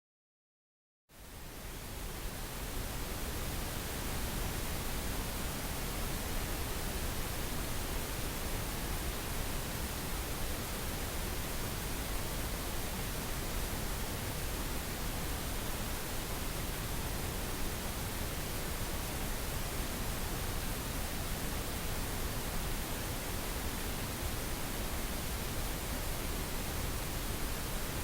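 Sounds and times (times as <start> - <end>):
steady pink noise hiss: 1.1 - 28.0.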